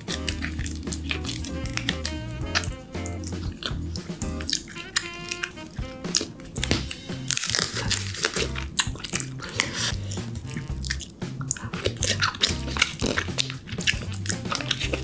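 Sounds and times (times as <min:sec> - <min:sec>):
background music: 0:00.0 - 0:15.0
biting and chewing crab meat: 0:00.0 - 0:15.0.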